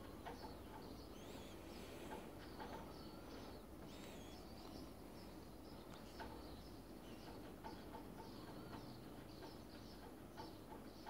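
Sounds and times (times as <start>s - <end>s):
low steady background hum: 0.0s - 11.0s
small birds chirping and whistling: 0.0s - 11.0s.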